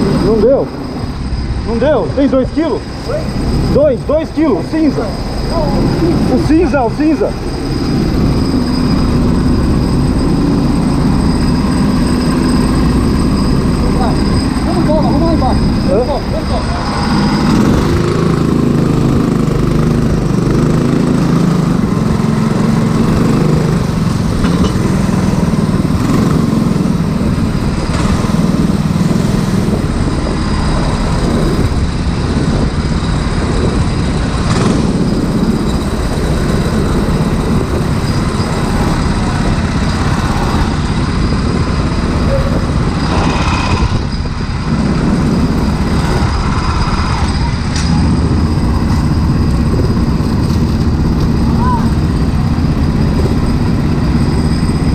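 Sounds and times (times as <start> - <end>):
go-kart engines running: 0.0 - 54.9.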